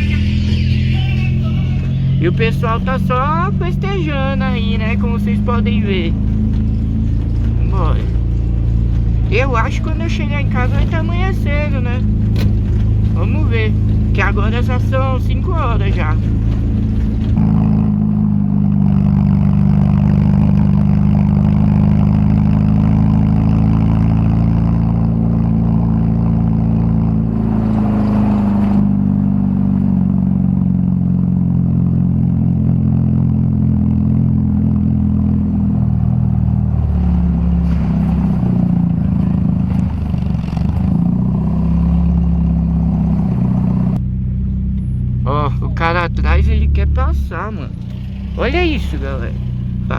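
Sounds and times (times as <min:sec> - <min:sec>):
car engine droning through exhaust: 0:00.0 - 0:49.9.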